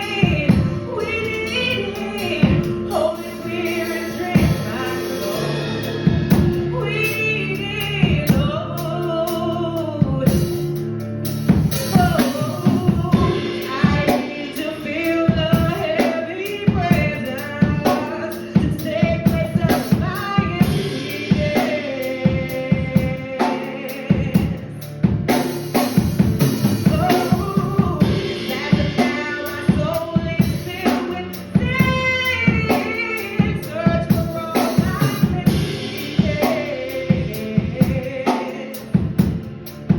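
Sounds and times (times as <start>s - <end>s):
voices singing worship music: 0.0s - 10.6s, 11.8s - 39.3s
band playing: 0.0s - 39.9s
drum kit beat: 0.0s - 39.9s.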